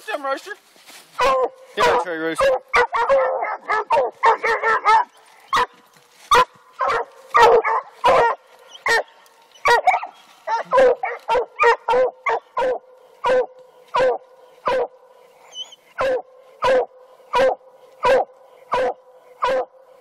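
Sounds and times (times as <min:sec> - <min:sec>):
dogs barking: 0:01.2 - 0:20.0.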